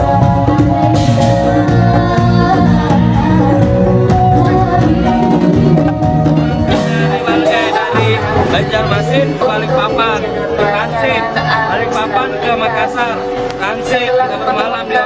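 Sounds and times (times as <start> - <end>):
live band playing: 0.0 - 15.0
person singing: 0.0 - 15.0.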